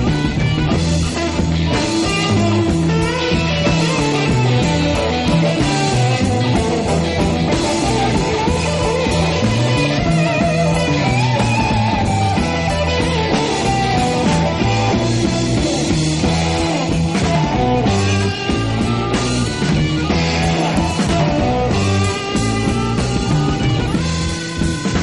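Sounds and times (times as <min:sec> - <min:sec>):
rock guitar: 0:00.0 - 0:25.0
steady bass line: 0:00.0 - 0:25.0.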